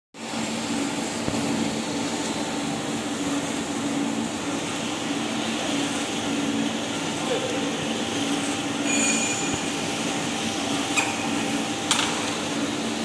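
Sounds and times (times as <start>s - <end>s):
mixer machine hum: 0.2s - 13.0s
rollers turning through damp mix: 0.2s - 13.0s.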